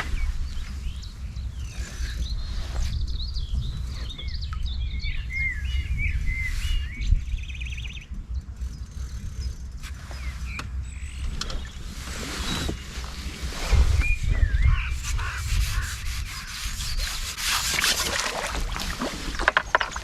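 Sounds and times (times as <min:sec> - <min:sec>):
steady low rumble: 0:00.0 - 0:16.5
songbird chirping and warbling: 0:00.0 - 0:20.0.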